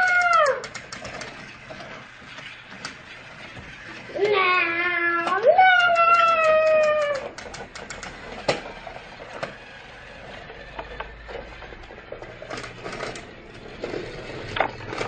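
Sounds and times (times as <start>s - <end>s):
plastic toy train pieces clicking: 0.0s - 15.0s.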